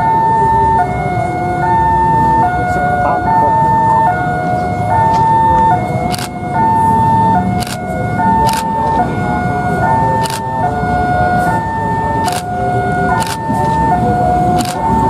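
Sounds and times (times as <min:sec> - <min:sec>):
diesel railcar engine rumble: 0:00.0 - 0:15.0
level crossing two-tone alarm: 0:00.0 - 0:15.0.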